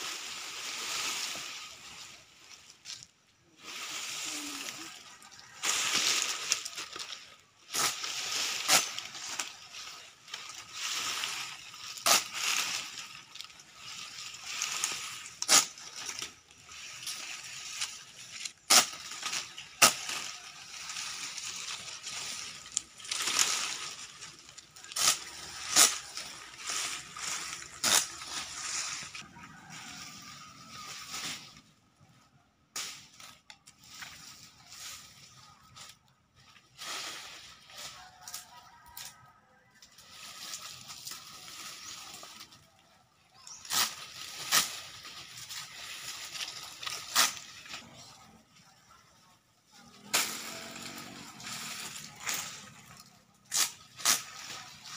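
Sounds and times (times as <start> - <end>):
palm fronds rustling over dry leaves: 0.0 - 54.9.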